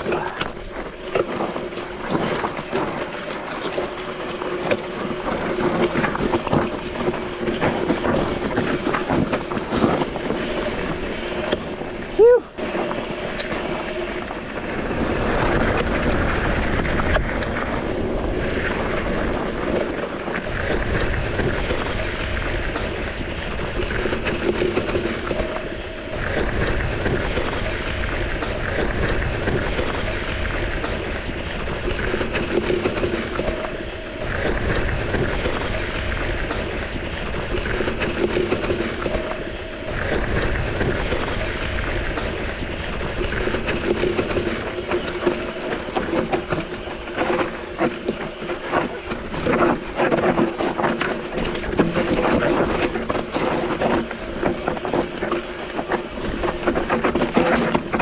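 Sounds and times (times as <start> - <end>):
bike tyres crunching over rock: 0.0 - 58.0
wind buffeting microphone: 0.0 - 58.0.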